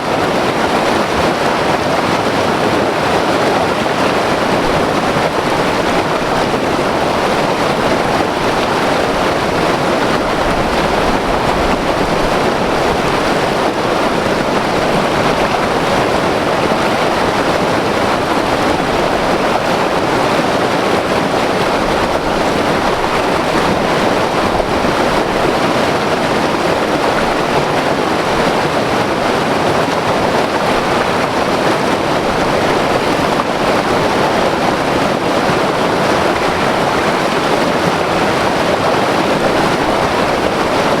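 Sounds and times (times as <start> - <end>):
river rushing over rocks: 0.0 - 41.0.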